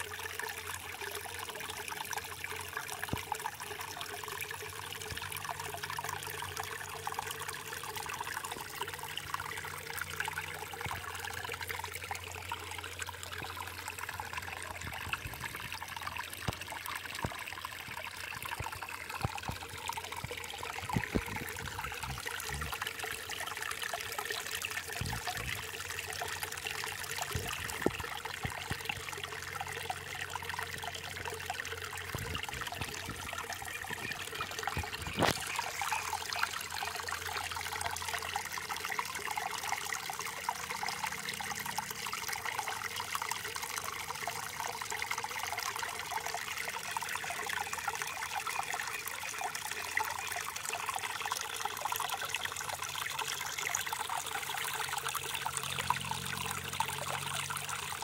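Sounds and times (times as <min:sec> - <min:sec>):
brook trickling over stones: 0:00.0 - 0:58.0.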